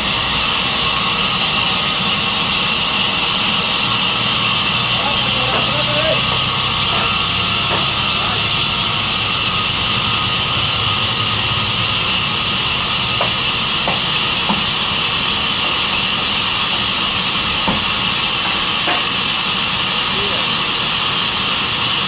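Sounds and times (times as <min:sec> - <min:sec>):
sawmill saw hissing: 0:00.0 - 0:22.0.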